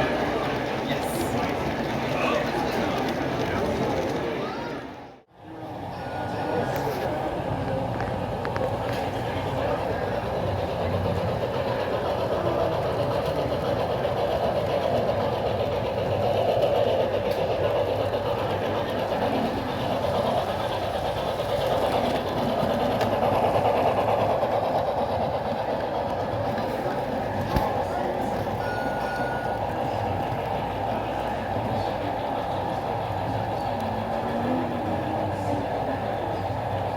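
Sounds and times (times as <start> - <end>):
toy train clattering on track: 0.0 - 4.5, 9.8 - 36.9
electronic steam locomotive sound: 0.0 - 36.9.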